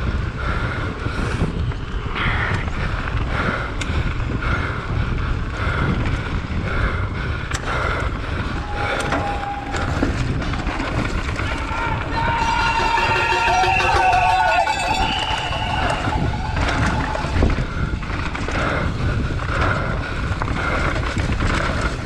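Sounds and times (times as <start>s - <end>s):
bike clicks and rattles: 0.0s - 22.0s
tyres rumbling on dirt trail: 0.0s - 22.0s
wind buffeting microphone: 0.0s - 22.0s.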